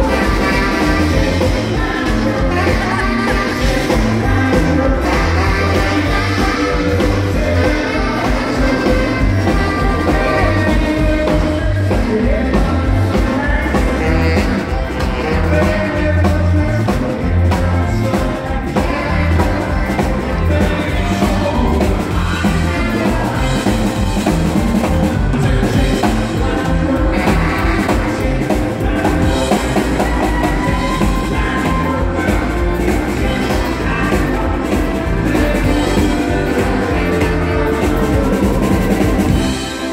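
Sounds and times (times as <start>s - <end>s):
drum beat: 0.0s - 39.9s
electric guitar: 0.0s - 39.9s
person singing: 0.0s - 39.9s.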